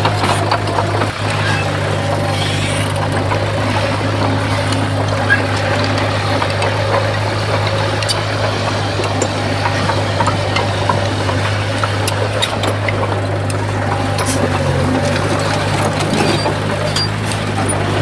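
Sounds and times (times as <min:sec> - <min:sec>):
heavy diesel engine droning: 0:00.0 - 0:18.0.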